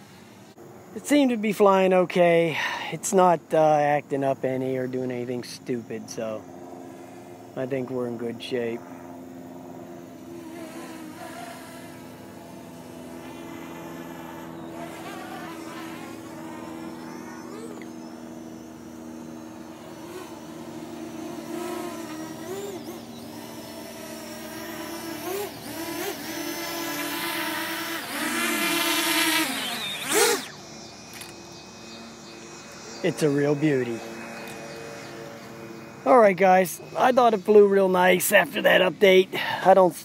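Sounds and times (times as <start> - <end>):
drone propellers buzzing: 5.0 - 40.0.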